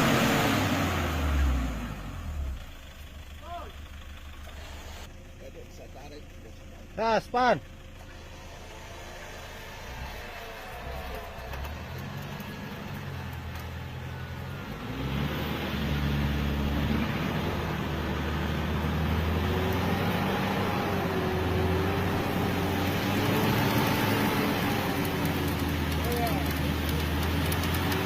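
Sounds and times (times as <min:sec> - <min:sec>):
pickup truck engine revving: 0:00.0 - 0:05.1, 0:07.9 - 0:28.0.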